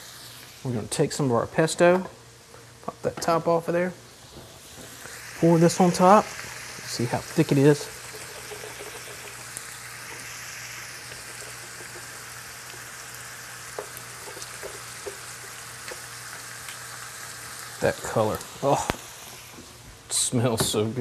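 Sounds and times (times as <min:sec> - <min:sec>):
butter sizzling in a skillet: 0:00.0 - 0:21.0.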